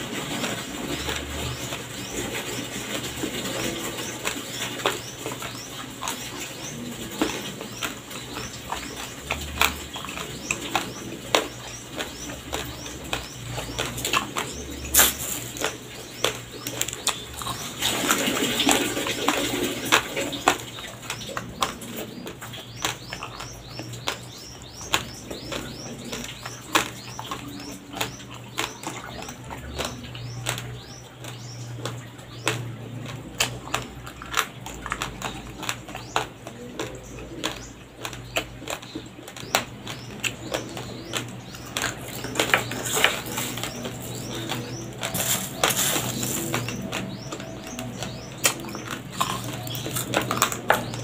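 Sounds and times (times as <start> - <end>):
raw rice crunching while chewed: 0.0 - 51.0.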